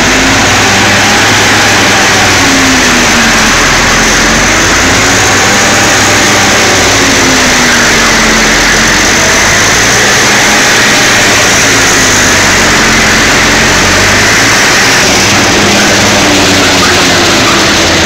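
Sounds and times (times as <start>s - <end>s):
silage being shredded: 0.0s - 18.0s.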